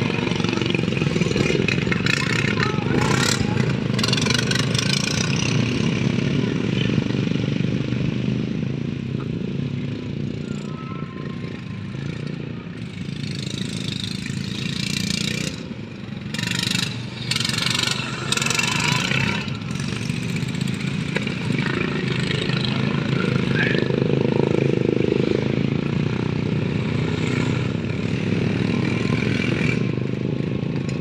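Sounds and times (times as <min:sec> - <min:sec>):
lawnmower engines running: 0:00.0 - 0:31.0.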